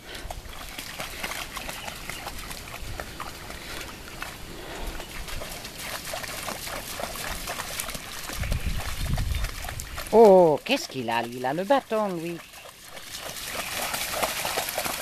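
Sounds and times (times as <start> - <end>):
dogs splashing in water: 0.0 - 15.0.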